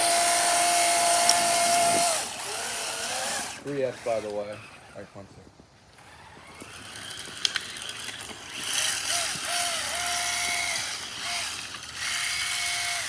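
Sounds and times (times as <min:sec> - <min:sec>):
electric motor whining: 0:00.0 - 0:05.3, 0:05.9 - 0:13.0.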